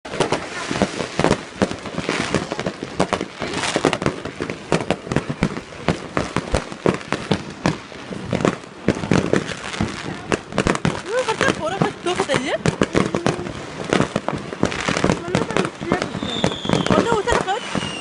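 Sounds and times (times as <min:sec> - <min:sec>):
fireworks bangs and pops: 0:00.0 - 0:18.0
fireworks crackling and hiss: 0:00.1 - 0:18.0.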